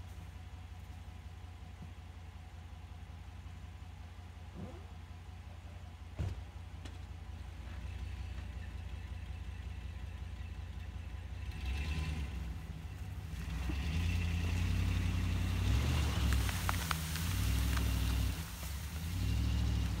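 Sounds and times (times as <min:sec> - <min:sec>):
pickup truck engine idling and revving: 0:00.0 - 0:20.0.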